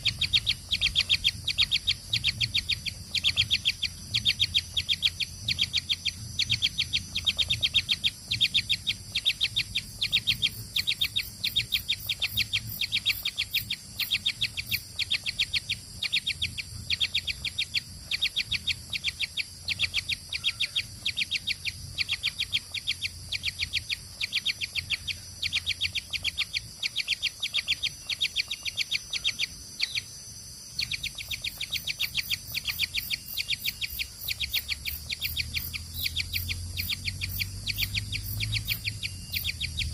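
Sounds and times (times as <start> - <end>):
baby birds chirping: 0.0 - 30.1, 30.8 - 39.9.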